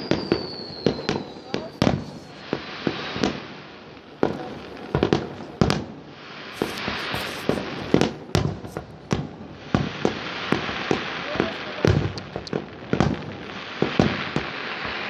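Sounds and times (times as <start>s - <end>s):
distant fireworks hiss and crackle: 0.0s - 15.0s
fireworks sharp bangs: 0.0s - 15.0s.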